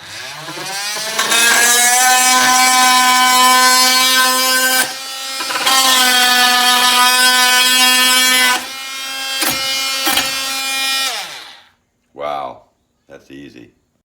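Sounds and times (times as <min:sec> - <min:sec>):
oscillating multi-tool cutting nail: 0:00.0 - 0:11.7.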